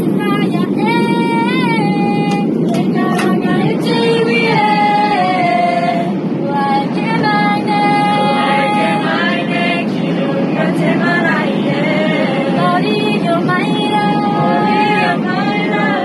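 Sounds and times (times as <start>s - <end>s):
airliner cabin hum: 0.0s - 16.0s
young voices singing together: 0.1s - 16.0s.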